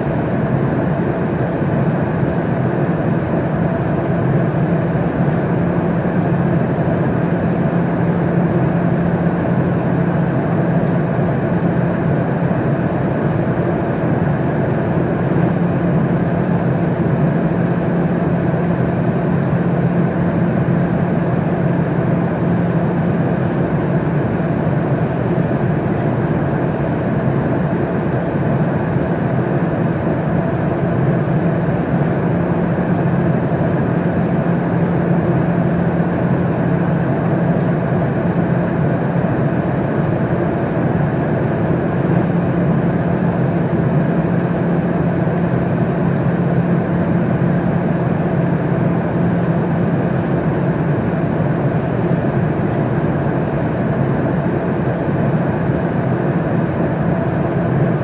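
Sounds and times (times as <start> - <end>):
airliner cabin engine rush: 0.0 - 58.0.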